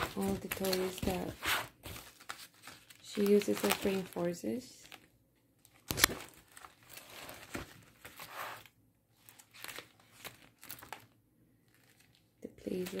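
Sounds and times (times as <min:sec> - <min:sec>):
plastic page protectors crinkling: 0:00.0 - 0:13.0.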